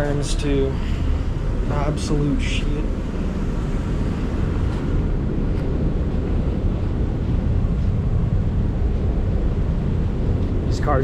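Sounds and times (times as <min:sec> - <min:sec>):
ship engines rumbling: 0:00.0 - 0:11.0.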